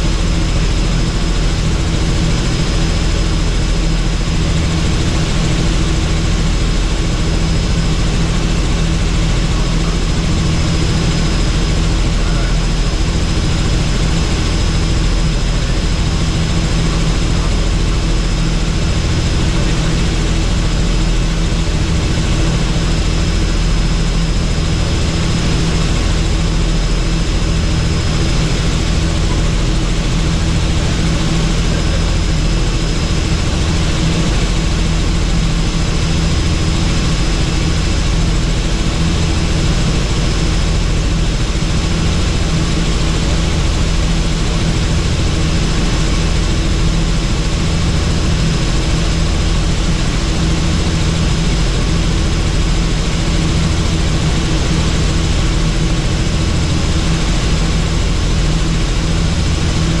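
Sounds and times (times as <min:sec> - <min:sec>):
helicopter rotor drone: 0:00.0 - 1:00.0.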